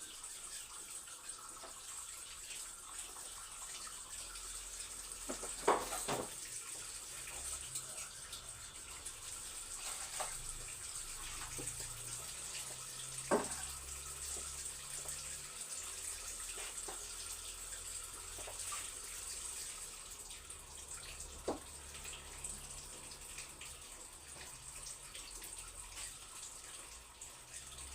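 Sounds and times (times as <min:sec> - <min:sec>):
tap water running into sink: 0:00.0 - 0:27.9.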